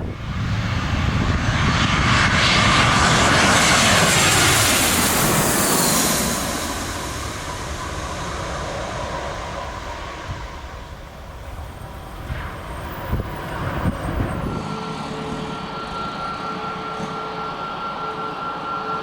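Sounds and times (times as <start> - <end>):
airliner engine roar: 0.0 - 19.0.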